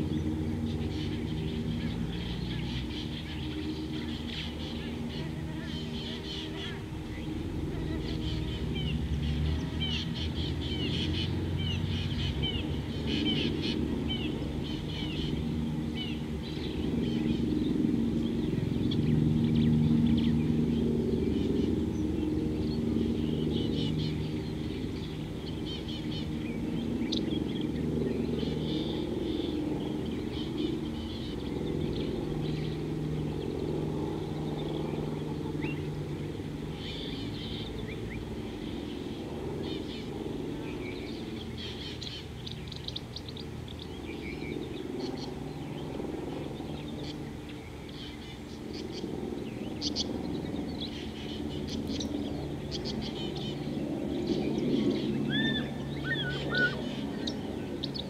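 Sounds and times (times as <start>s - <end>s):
birds chirping and calling: 0.0s - 58.0s
low drone: 0.0s - 58.0s.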